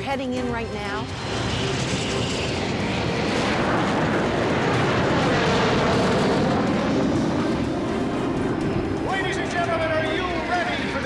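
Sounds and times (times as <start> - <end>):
jets flying past: 1.0 - 11.0.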